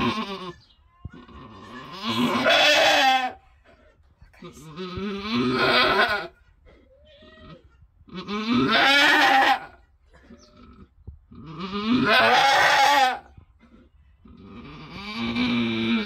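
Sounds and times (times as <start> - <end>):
goat bleating: 0.0 - 16.0.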